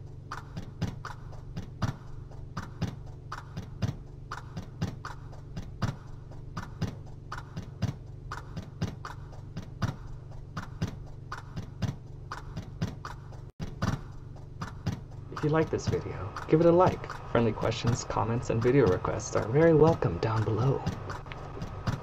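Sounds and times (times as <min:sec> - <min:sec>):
clock ticking: 0:00.0 - 0:22.0
low steady hum: 0:00.0 - 0:22.0.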